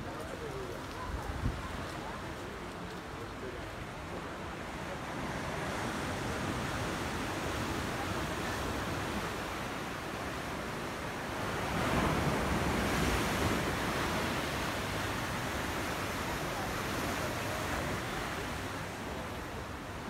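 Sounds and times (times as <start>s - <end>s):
surf washing against sea wall: 0.0s - 20.0s
wind: 0.0s - 20.0s.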